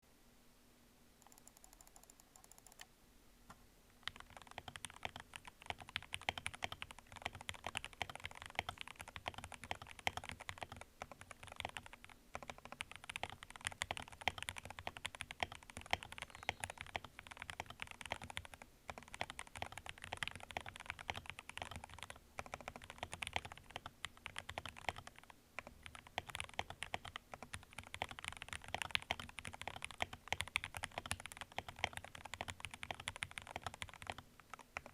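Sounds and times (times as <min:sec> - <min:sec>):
fast typing on mechanical keyboard: 0:01.2 - 0:02.8, 0:04.0 - 0:34.9.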